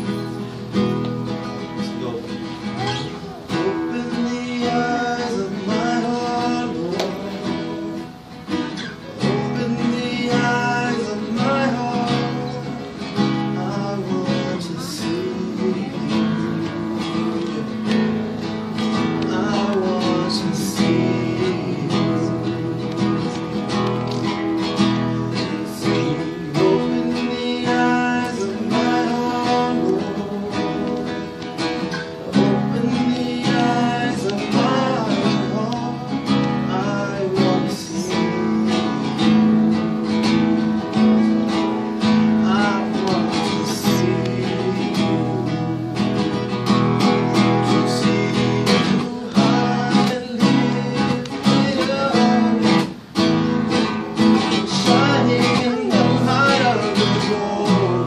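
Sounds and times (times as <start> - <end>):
classical guitar strummed: 0.0 - 58.0
man singing: 0.0 - 58.0.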